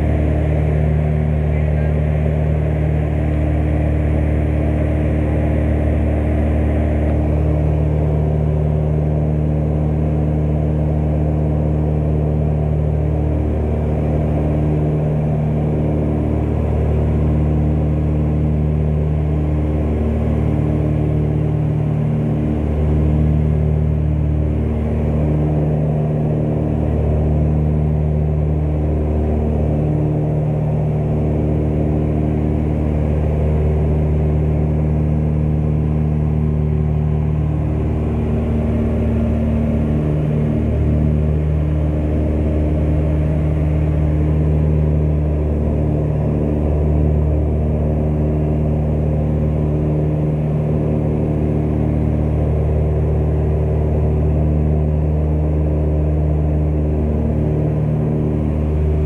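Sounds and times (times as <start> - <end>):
aircraft propeller engines droning: 0.0 - 59.0.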